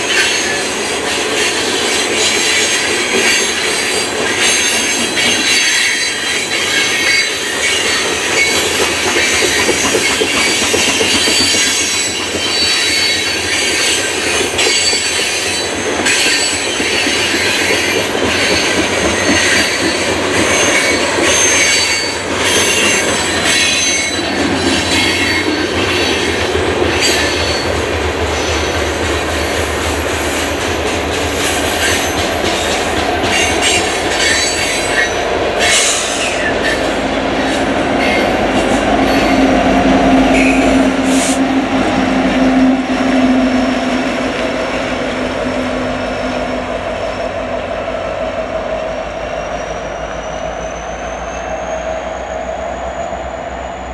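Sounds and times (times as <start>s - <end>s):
clickety-clack over rail joints: 0.0s - 45.9s
diesel locomotive engine drone: 0.0s - 53.9s
train wheel squeal: 0.0s - 53.9s.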